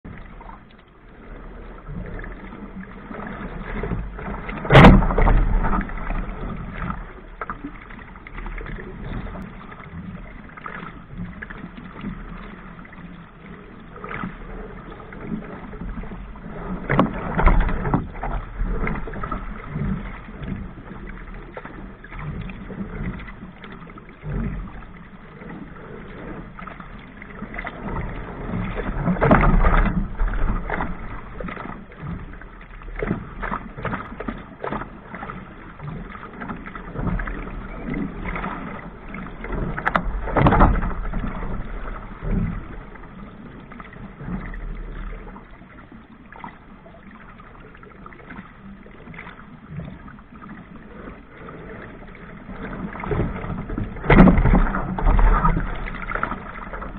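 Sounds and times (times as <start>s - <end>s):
waves splashing against boat bow: 0.0s - 56.9s.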